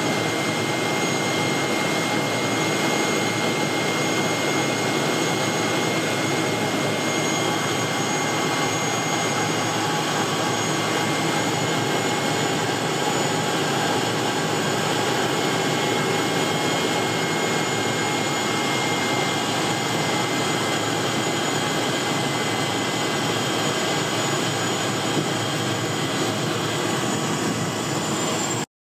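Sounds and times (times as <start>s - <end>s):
plane engine and propeller: 0.0s - 28.7s.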